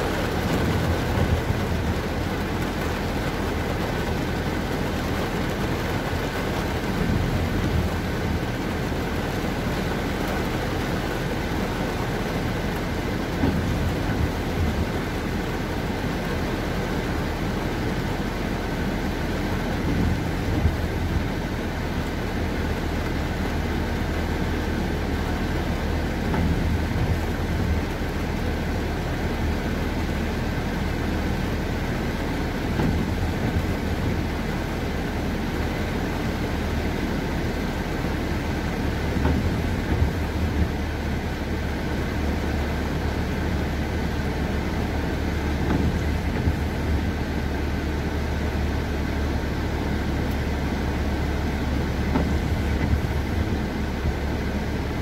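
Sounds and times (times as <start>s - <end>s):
car engine rumble: 0.0s - 55.0s
rain hitting windshield and roof: 0.0s - 55.0s
tyres on wet road: 0.0s - 55.0s.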